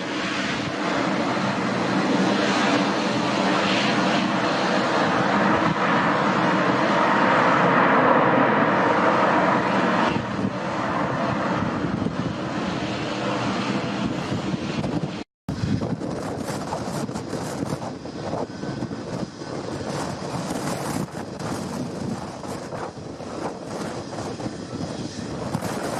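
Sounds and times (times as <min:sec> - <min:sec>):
jet engines roaring past: 0:00.0 - 0:25.9.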